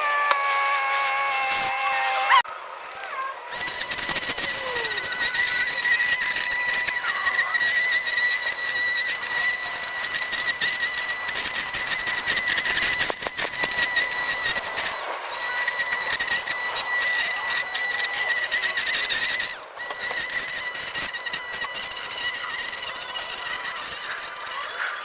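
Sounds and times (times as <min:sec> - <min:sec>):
grass cutting crackling hiss: 0:00.0 - 0:02.4, 0:03.4 - 0:25.0
electric motor whining: 0:00.0 - 0:25.0.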